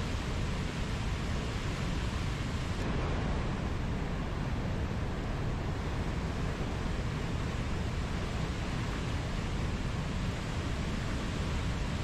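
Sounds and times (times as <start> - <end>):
rapids and waterfall rushing: 0.0 - 12.0.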